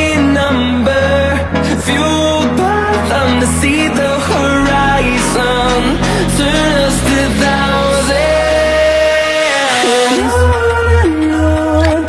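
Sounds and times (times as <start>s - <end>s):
pop backing track: 0.0s - 12.0s
person singing long note: 0.1s - 11.4s.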